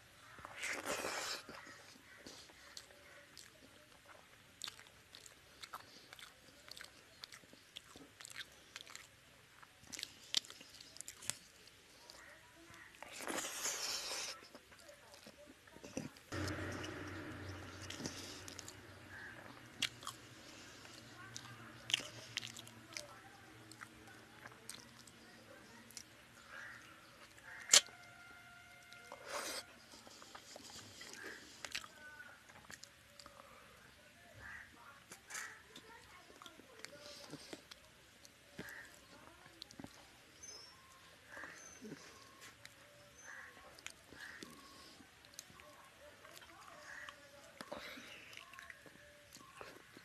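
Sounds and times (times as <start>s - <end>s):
chewing and smacking: 0.4s - 27.9s, 28.9s - 33.4s, 35.1s - 50.0s.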